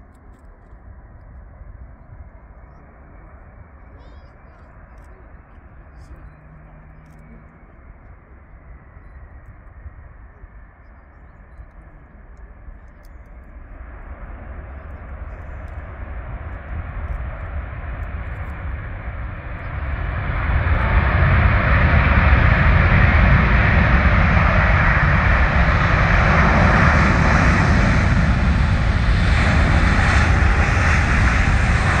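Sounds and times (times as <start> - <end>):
jet engines roaring: 0.8 - 32.0.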